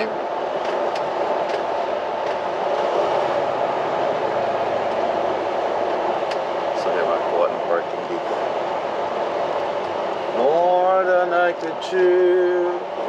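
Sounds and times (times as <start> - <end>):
truck cab engine and tyre rumble: 0.0 - 13.0.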